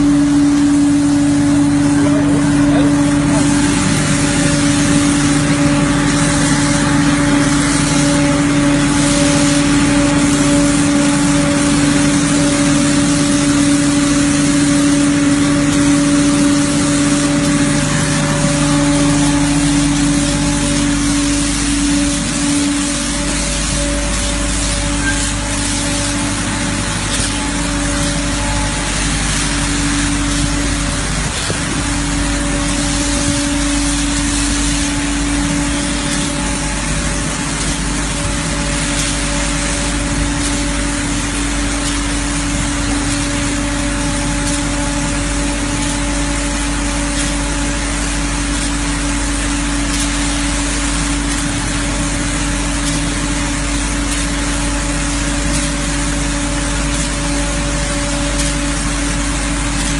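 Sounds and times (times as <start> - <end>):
machine hum: 0.0 - 59.9
spray gun hissing: 0.0 - 59.9.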